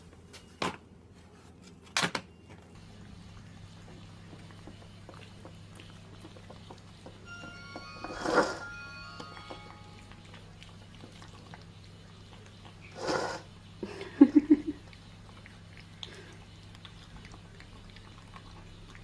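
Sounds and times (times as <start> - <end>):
steady low hum: 2.5 - 19.0.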